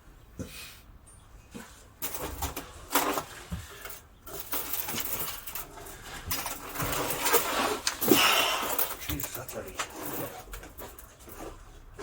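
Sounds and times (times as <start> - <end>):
objects rustling and knocking: 1.4 - 12.0.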